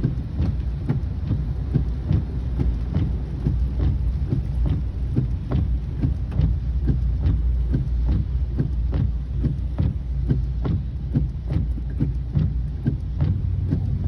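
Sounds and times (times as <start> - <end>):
low rumble inside moving car: 0.0 - 14.0
regular thump: 0.0 - 14.0.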